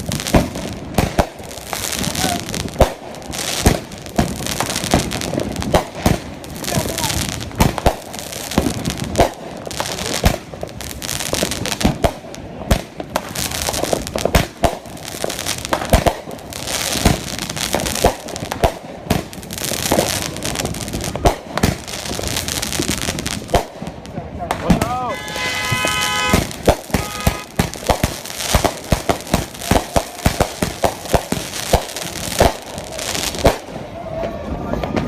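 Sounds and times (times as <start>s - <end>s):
firecrackers crackling: 0.0s - 35.0s
fireworks bangs: 0.0s - 35.0s.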